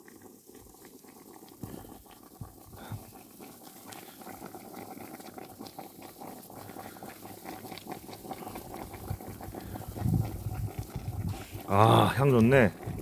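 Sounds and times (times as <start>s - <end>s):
broth boiling with bubbling pops: 0.0s - 13.0s.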